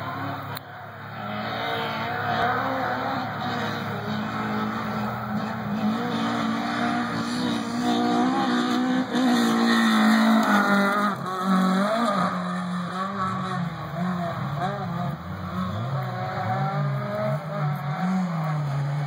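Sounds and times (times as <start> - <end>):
rally car passing at full throttle: 0.0 - 19.0.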